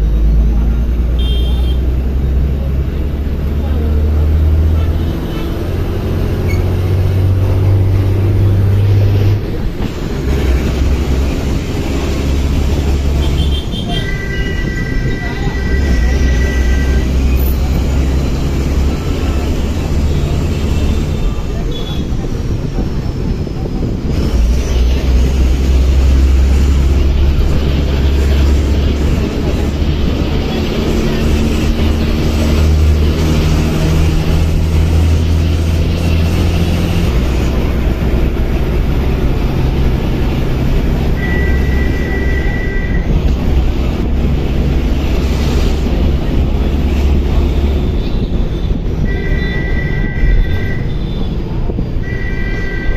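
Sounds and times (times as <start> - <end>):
bus engine drone: 0.0 - 52.9
road noise: 0.0 - 52.9.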